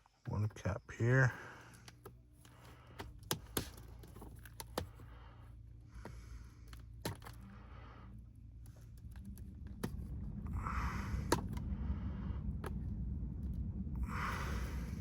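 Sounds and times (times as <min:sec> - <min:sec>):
low rumble: 0:01.4 - 0:15.0.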